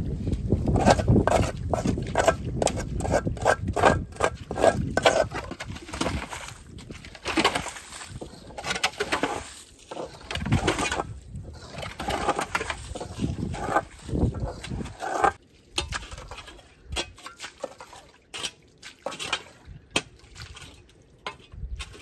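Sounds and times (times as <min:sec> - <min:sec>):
water splashing and sloshing: 0:00.0 - 0:22.0
shovel digging wet mud: 0:00.4 - 0:22.0.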